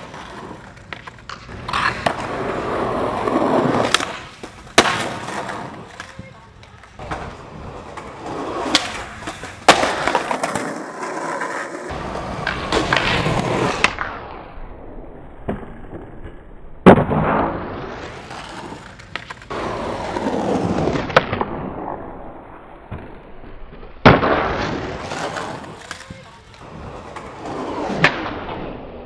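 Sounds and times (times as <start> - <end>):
skateboard popping and landing: 0.0 - 14.3, 15.4 - 29.0
skateboard wheels rolling on concrete: 0.0 - 29.0.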